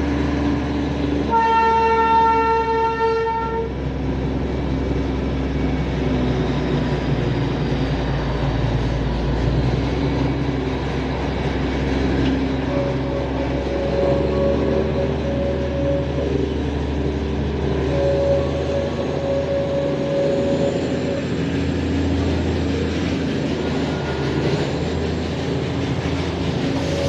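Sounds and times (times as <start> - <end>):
train engine drone: 0.0 - 27.0
wheels rumbling on rails: 0.0 - 27.0.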